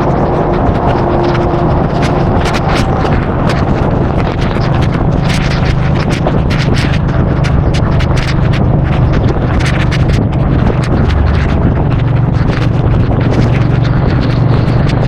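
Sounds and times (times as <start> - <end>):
motorcycle engine running: 0.0 - 15.0
sharp crackles: 0.0 - 15.0
wind on microphone: 0.0 - 15.0.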